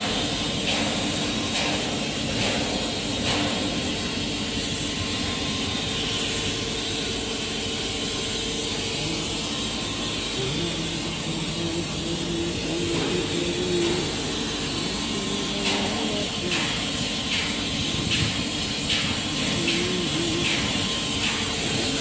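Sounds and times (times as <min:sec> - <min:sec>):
low machine hum: 0:00.0 - 0:22.0
welding arc hiss: 0:00.0 - 0:22.0.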